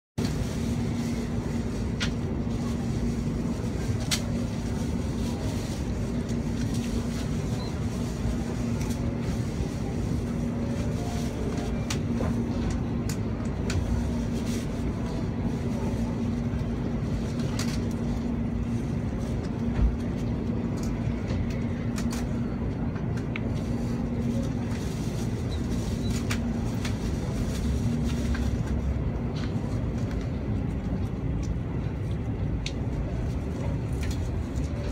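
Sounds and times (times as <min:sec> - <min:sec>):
train interior hum and hiss: 0:00.2 - 0:34.9.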